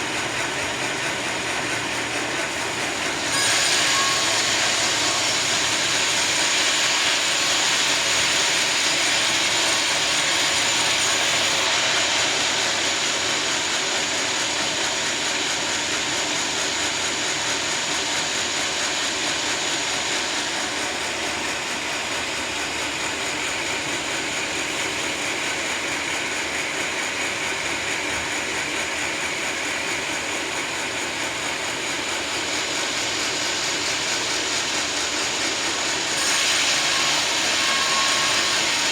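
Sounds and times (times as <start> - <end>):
saw cutting through log: 0.0 - 28.0, 31.0 - 38.9
high saw whine: 0.0 - 38.9.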